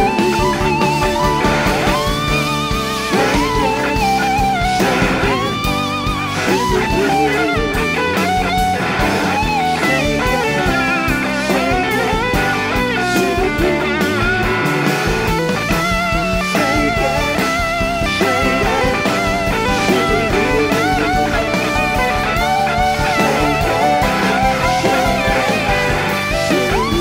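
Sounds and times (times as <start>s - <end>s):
drum kit: 0.0s - 27.0s
electric guitars: 0.0s - 27.0s.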